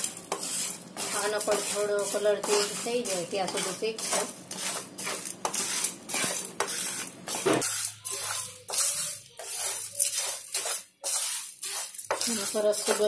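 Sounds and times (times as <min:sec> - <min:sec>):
wooden spatula scraping lentils in pan: 0:00.0 - 0:13.0.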